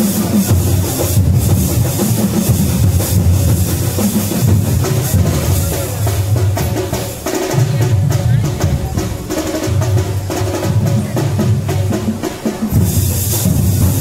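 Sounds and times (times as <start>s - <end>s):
music with heavy drum beat: 0.0s - 14.0s.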